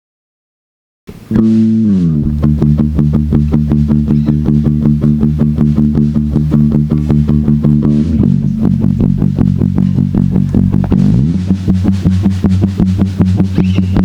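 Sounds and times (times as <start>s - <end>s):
held bass chord: 1.1s - 14.0s
guitar picking fast notes: 1.2s - 14.0s.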